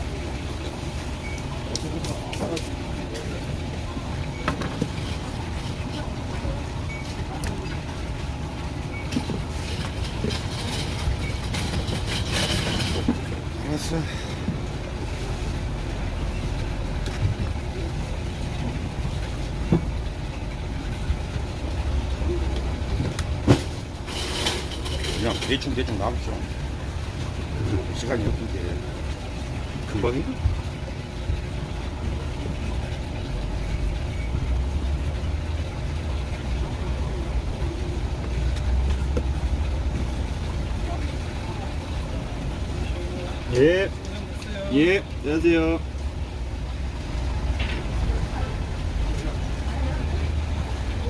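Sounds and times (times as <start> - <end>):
low mechanical rumble: 0.0 - 51.0.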